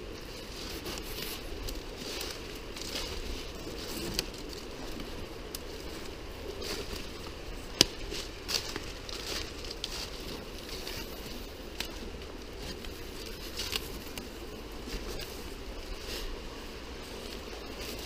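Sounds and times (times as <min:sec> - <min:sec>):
twigs cracking: 0:00.0 - 0:18.0
footsteps crunching through leaves: 0:00.2 - 0:18.0.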